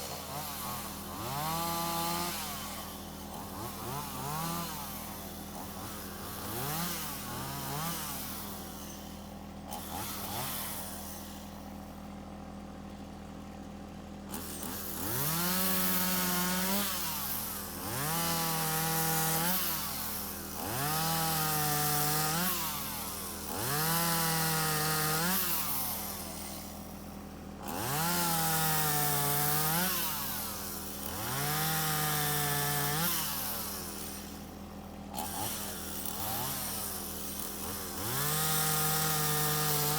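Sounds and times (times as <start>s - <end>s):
chainsaw engine revving and idling: 0.0s - 39.9s.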